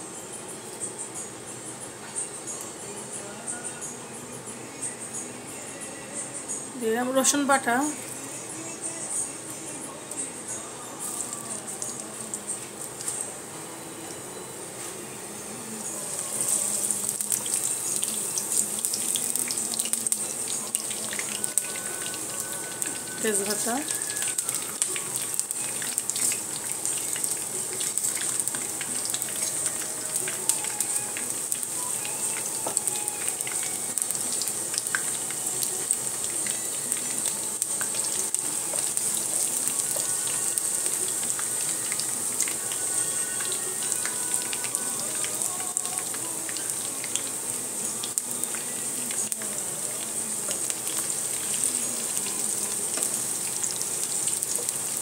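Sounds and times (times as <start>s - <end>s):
food sizzling in hot oil: 6.4s - 55.0s.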